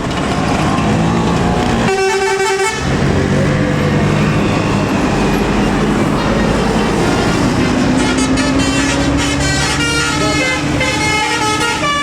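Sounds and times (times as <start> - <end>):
bus engines droning: 0.0 - 12.0
multi-tone bus horn: 1.6 - 3.3, 3.9 - 12.0.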